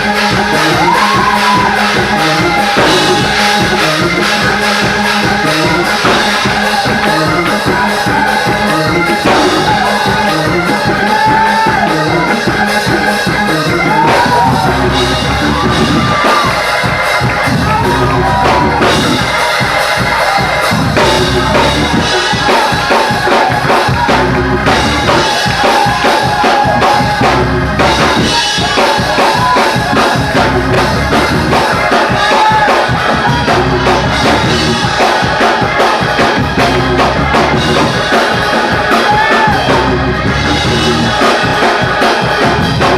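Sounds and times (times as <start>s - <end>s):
church band playing: 0.0s - 42.9s
congregation singing and shouting: 0.0s - 42.9s
fast drum beat: 0.0s - 42.9s.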